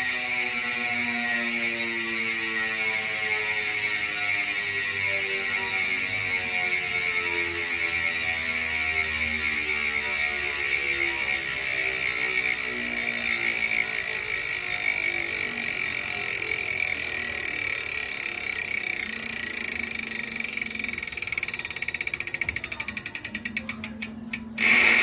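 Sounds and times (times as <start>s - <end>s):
bicycle hub freewheel clicking: 0.0s - 25.0s.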